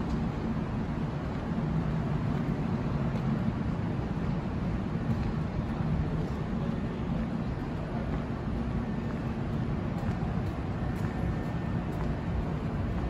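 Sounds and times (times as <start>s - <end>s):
tram humming and rumbling: 0.0s - 13.0s.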